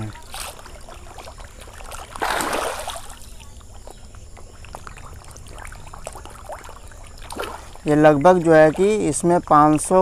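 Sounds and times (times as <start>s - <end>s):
fish splashing at water surface: 0.0s - 10.0s.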